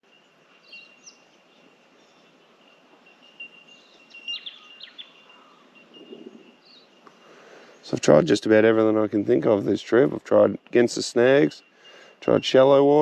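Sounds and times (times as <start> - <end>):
bell birds calling: 0.0 - 13.0
steady high-pitched ringing: 0.0 - 13.0.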